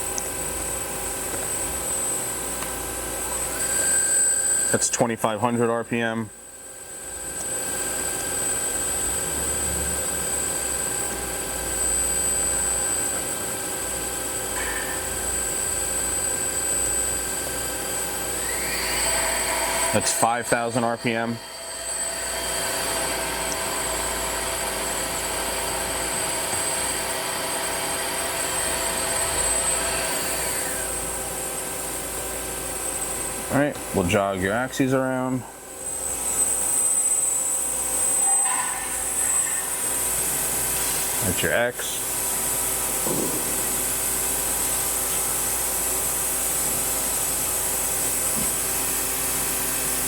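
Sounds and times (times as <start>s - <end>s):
high-pitched spindle whine: 0.0s - 50.0s
machine hum: 0.0s - 50.0s.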